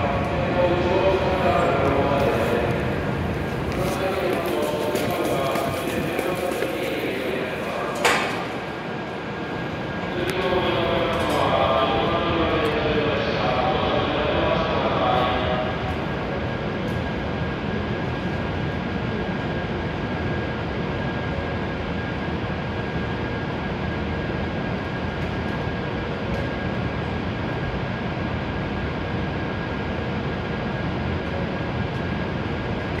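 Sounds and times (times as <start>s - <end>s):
train fans whirring hum: 0.0s - 33.0s.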